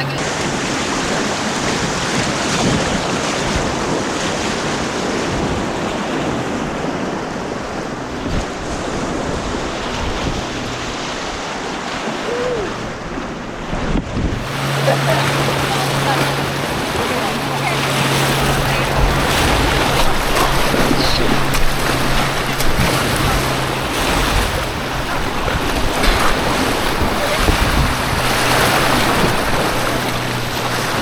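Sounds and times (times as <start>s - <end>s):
white water rushing: 0.0s - 31.0s
wind buffeting microphone: 0.0s - 31.0s.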